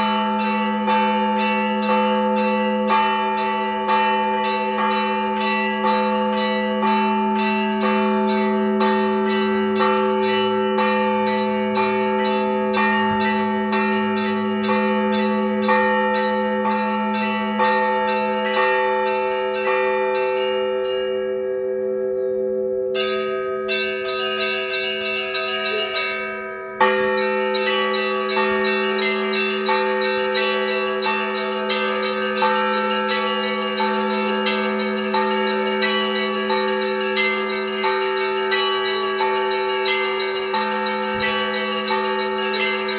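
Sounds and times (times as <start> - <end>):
heavy bell stroke: 0.0 - 17.8, 23.0 - 42.9
large bells ringing: 0.0 - 42.9
small church bells: 0.0 - 42.9.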